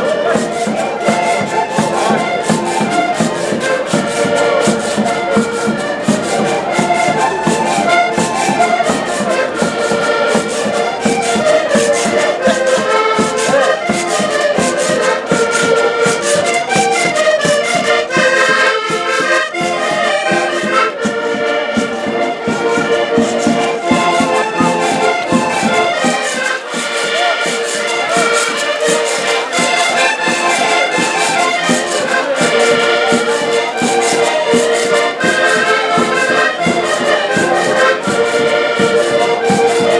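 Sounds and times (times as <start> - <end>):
button accordions playing: 0.0 - 39.9
percussion: 0.0 - 39.9.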